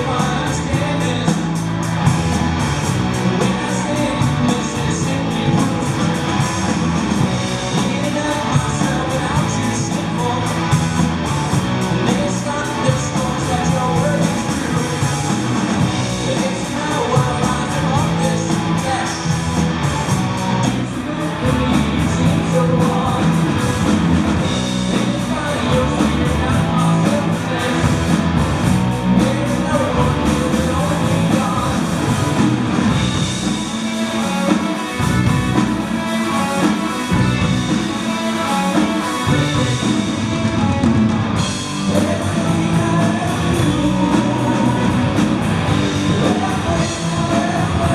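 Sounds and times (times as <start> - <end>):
person singing: 0.0 - 1.6, 3.2 - 6.8, 7.4 - 10.8, 11.7 - 19.5, 20.6 - 32.5, 33.4 - 40.9, 41.7 - 47.9
rock band playing live: 0.0 - 47.9.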